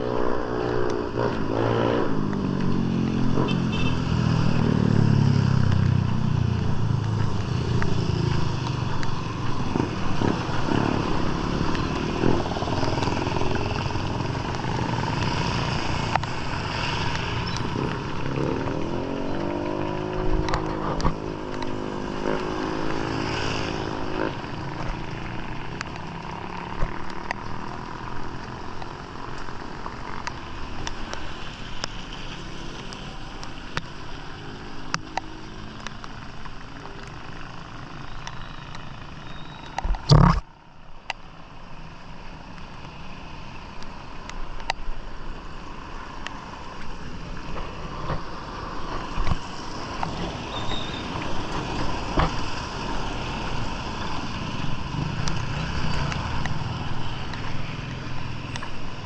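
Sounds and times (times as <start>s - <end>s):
motorcycles passing: 0.0s - 59.0s.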